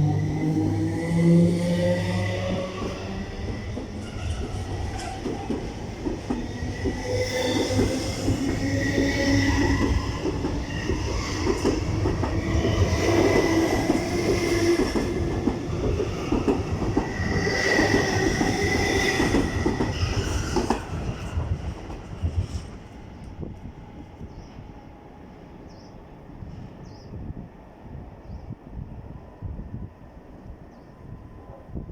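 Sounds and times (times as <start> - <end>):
metro train running on rails: 0.0 - 31.9.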